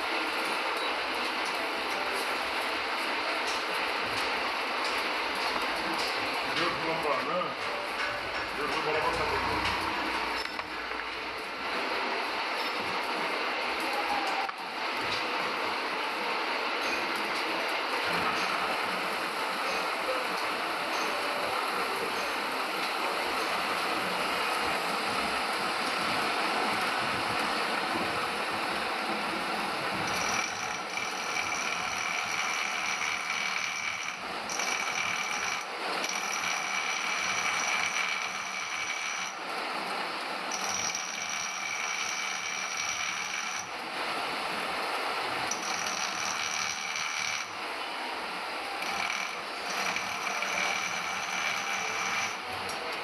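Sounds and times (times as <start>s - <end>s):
metal lathe running: 0.0s - 14.9s, 16.1s - 53.0s.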